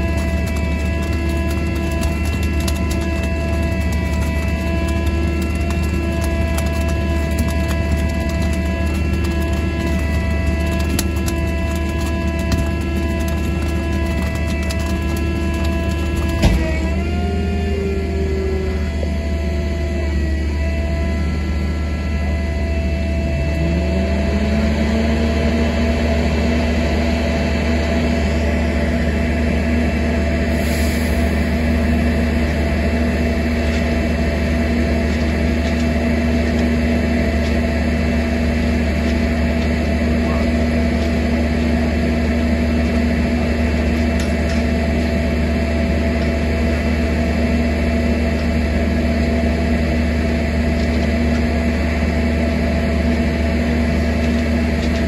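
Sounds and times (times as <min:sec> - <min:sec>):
machine engine running: 0:00.0 - 0:55.0.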